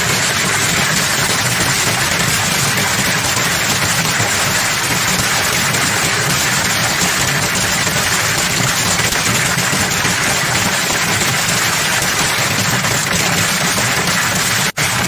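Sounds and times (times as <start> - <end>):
heavy rain beating against glass: 0.0 - 15.0.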